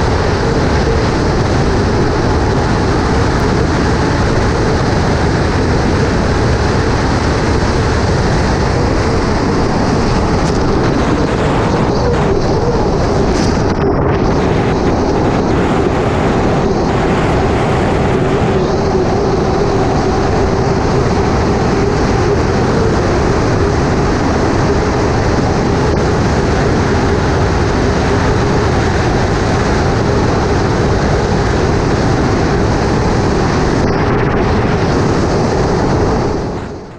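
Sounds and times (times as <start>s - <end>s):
turbine engine whine: 0.0s - 36.9s
wind and water noise: 0.0s - 36.9s.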